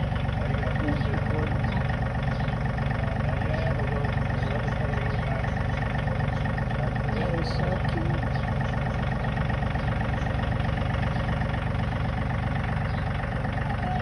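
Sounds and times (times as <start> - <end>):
tractor engine idling: 0.0 - 14.0.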